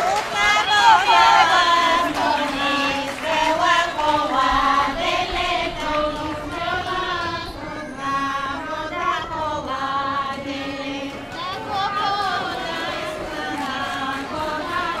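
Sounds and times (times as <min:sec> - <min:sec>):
women's folk choir singing: 0:00.0 - 0:15.0.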